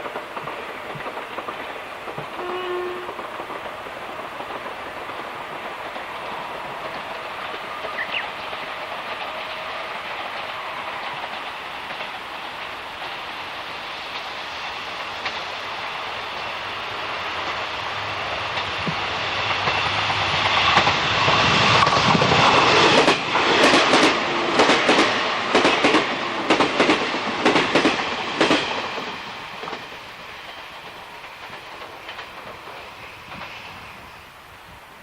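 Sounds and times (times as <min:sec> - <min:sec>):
wheels clicking over rail joints: 0:00.0 - 0:33.8
train passing: 0:00.0 - 0:35.0.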